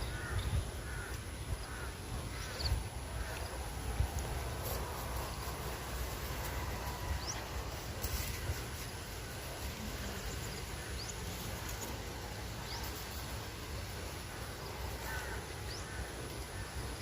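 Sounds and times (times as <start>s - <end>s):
low outdoor hum: 0.0s - 17.0s.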